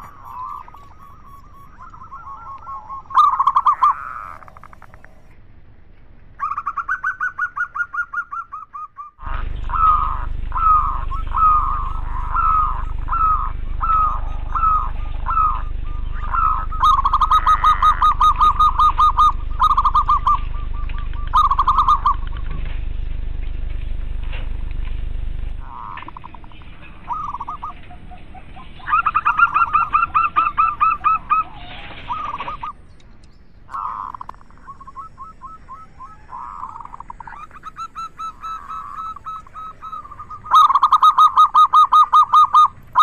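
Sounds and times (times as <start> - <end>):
doves cooing: 0.0 - 5.4, 6.4 - 43.0
steady low hum: 0.0 - 43.0.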